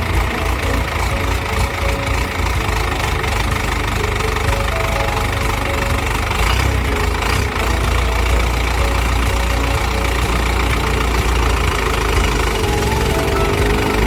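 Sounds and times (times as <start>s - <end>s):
wood chipper engine drone: 0.0s - 14.0s
wood chipper mechanical clatter: 0.0s - 14.0s.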